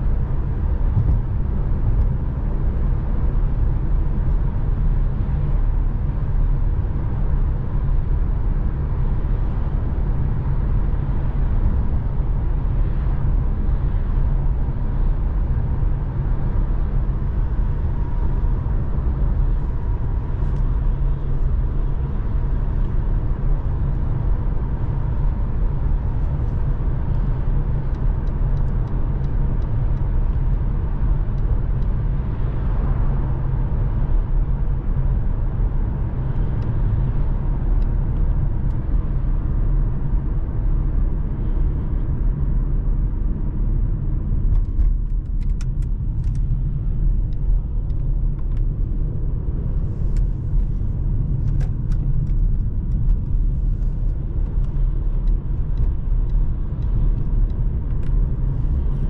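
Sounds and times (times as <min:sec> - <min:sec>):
car engine rumble: 0:00.0 - 0:59.0
road noise: 0:00.0 - 0:59.0.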